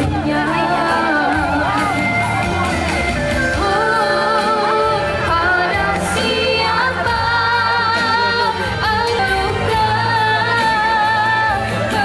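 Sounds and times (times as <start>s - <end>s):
woman singing into microphone: 0.0s - 2.6s, 3.3s - 12.0s
instrumental backing music: 0.0s - 12.0s.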